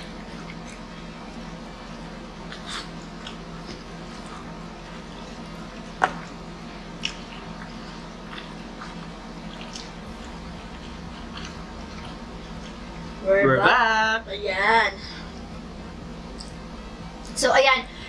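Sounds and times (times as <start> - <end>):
people chewing and eating: 0.0 - 14.0, 15.0 - 17.4.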